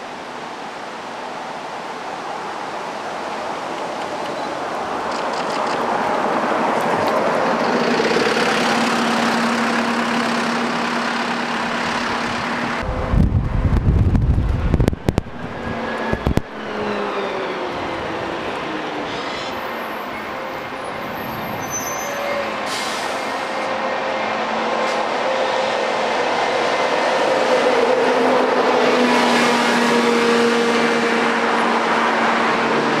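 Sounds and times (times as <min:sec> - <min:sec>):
bus engine passing by: 0:03.2 - 0:33.0.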